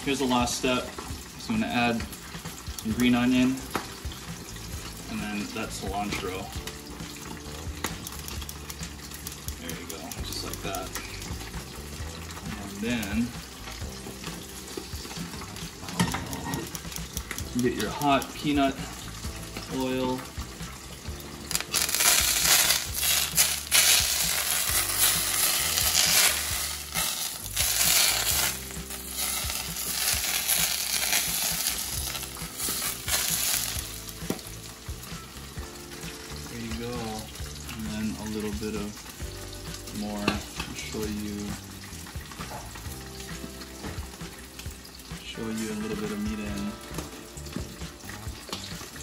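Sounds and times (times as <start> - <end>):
hot oil sizzling: 0.0 - 49.0.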